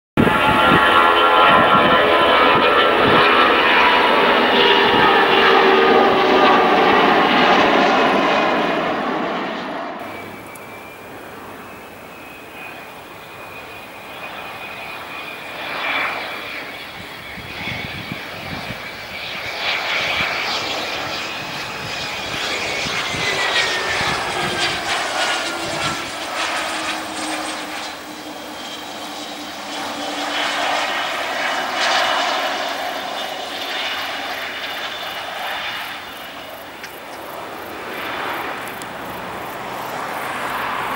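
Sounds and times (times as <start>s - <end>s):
jet engines at takeoff power: 0.2s - 40.9s
jet landing with engines whining: 0.2s - 40.9s.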